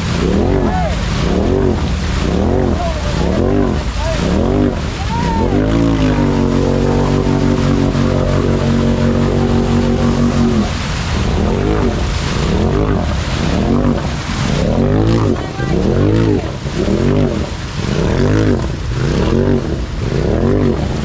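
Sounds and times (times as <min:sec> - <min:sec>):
utv engine revving: 0:00.0 - 0:21.0.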